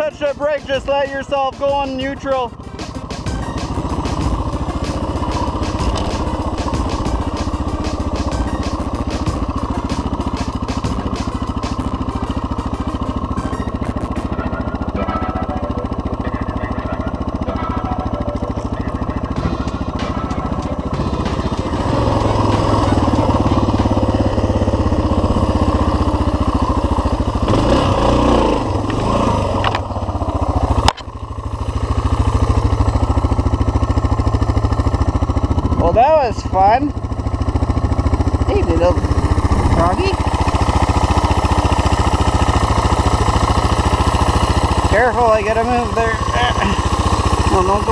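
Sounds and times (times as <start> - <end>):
motorcycle engine riding off-road: 0.0 - 47.9.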